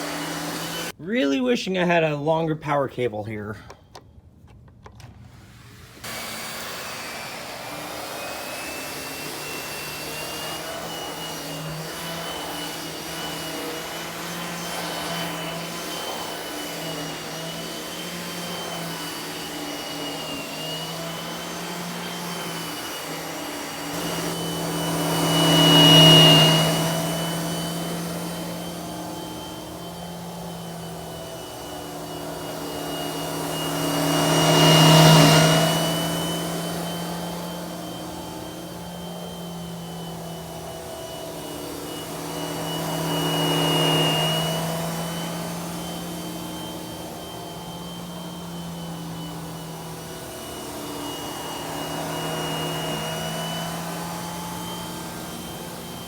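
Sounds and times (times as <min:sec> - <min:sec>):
vacuum cleaner switching on: 0:00.0 - 0:01.0, 0:03.7 - 0:56.0
vacuum cleaner running: 0:00.0 - 0:01.5, 0:04.8 - 0:56.0.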